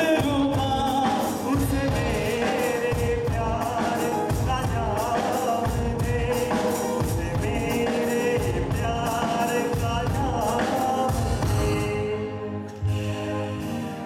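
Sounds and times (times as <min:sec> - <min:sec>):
steady drum beat: 0:00.0 - 0:12.1
man singing into a microphone: 0:00.0 - 0:12.8
amplified band: 0:00.0 - 0:14.0.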